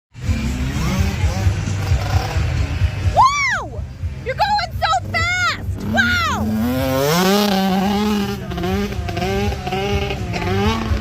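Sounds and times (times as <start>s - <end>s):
motocross bike engine at full throttle: 0.1s - 11.0s.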